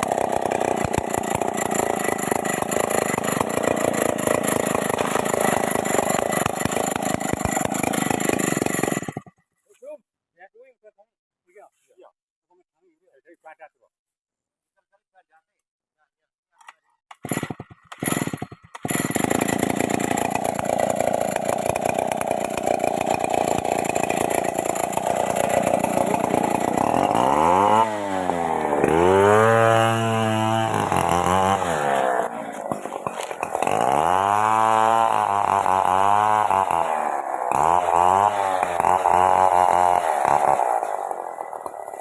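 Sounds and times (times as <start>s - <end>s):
chainsaw running and revving: 0.0s - 9.4s, 17.1s - 42.0s.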